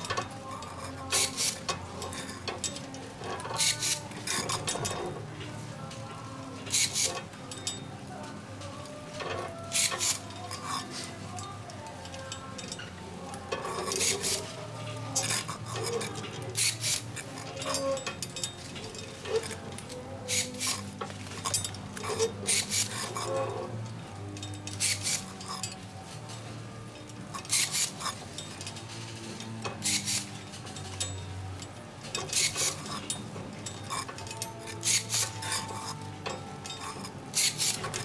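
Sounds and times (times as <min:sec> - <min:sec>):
ring-bending tool clicking: 0:00.0 - 0:25.9, 0:26.9 - 0:38.0.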